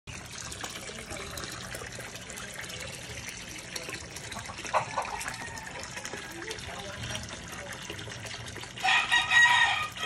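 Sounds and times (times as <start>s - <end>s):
water pouring into a pond: 0.1s - 10.0s.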